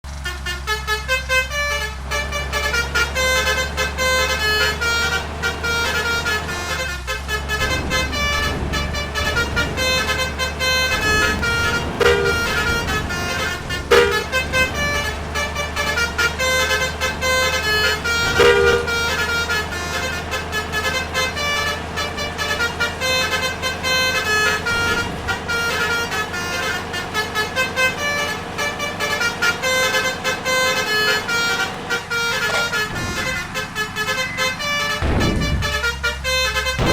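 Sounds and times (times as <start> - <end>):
bus engine running: 0.0 - 36.9
musical bus horns: 0.0 - 36.9.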